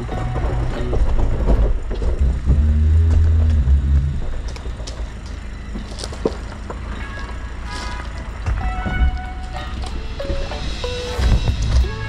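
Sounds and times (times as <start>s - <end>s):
vehicle engine pulling hard: 0.0s - 12.0s.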